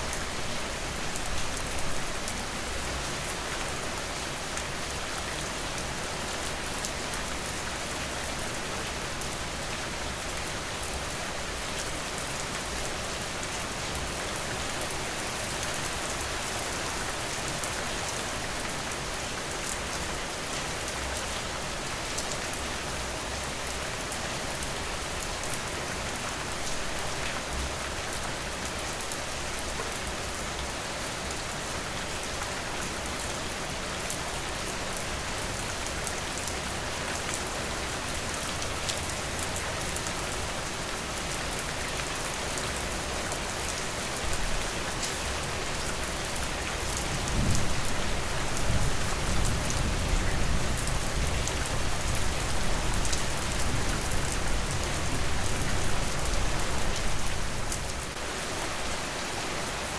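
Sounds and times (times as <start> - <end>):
rain on a porch: 0.0 - 59.9.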